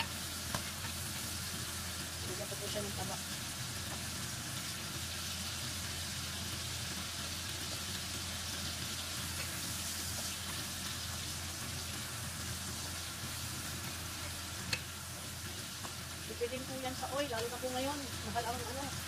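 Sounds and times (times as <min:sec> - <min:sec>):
pork sizzling in oil: 0:00.0 - 0:19.0.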